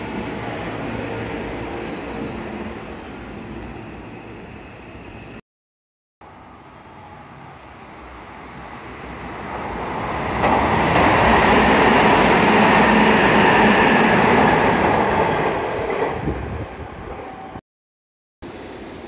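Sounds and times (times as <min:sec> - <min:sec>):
electric train passing: 0:00.0 - 0:05.4, 0:06.3 - 0:17.6.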